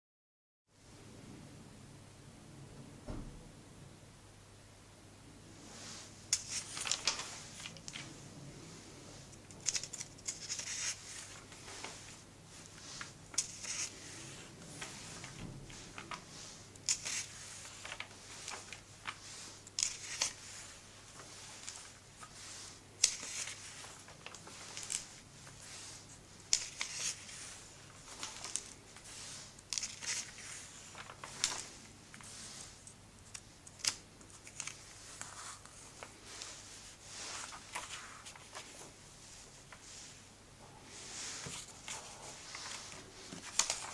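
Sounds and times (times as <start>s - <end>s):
pages being turned: 5.8s - 8.2s, 9.2s - 40.1s, 41.0s - 43.9s.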